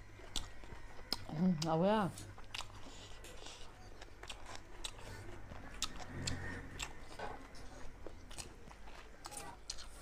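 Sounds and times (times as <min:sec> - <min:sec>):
chewing and lip smacking: 0:00.2 - 0:01.8, 0:02.4 - 0:10.0.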